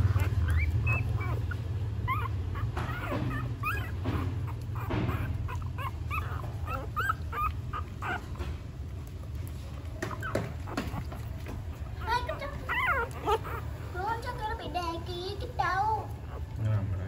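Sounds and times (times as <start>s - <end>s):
newborn puppies squeaking: 0.0s - 17.0s.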